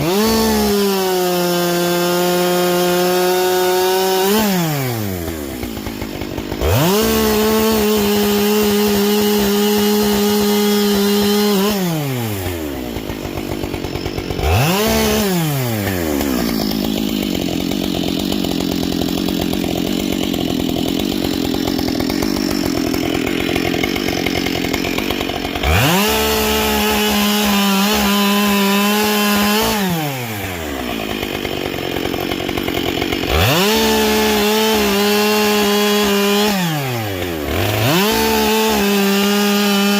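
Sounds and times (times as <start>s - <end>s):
chainsaw cutting wood: 0.0s - 39.9s
chainsaw revving and idling: 0.0s - 39.9s.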